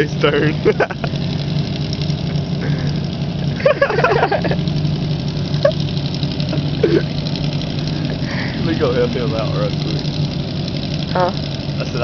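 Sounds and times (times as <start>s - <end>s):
riding lawn mower engine running: 0.0s - 12.0s.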